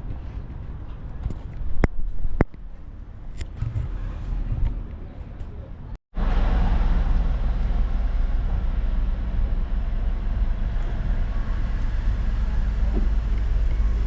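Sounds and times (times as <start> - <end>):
wind and road noise rumble: 0.0 - 14.0.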